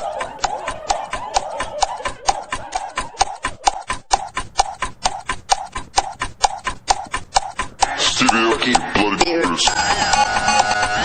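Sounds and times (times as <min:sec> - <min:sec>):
rapid clicks or taps: 0:00.0 - 0:11.0.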